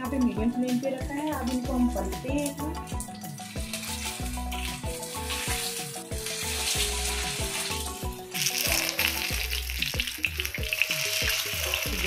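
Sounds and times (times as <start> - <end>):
background music: 0.0 - 12.0
oil sizzling in a pan: 0.0 - 12.0.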